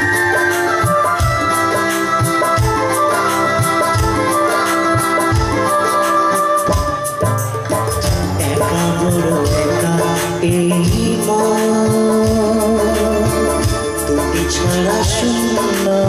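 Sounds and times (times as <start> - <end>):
electronic keyboard melody: 0.0 - 16.0
steady drum beat: 0.0 - 16.0.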